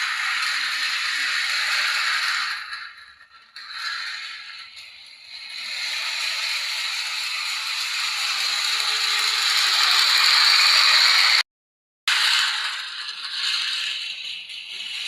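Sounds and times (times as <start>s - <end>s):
toy train motor rattling: 0.0s - 11.4s, 12.1s - 15.0s.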